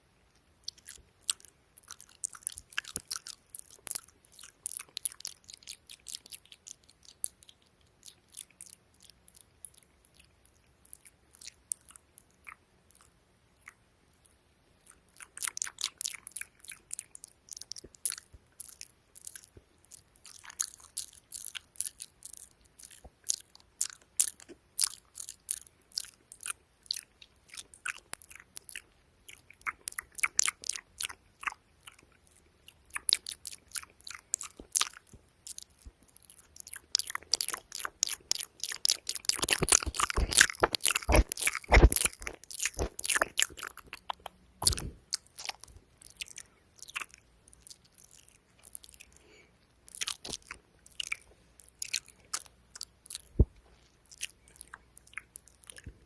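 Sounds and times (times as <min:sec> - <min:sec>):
wet mouth clicks and pops: 0:00.6 - 0:10.3, 0:14.8 - 0:49.2, 0:49.9 - 0:56.0.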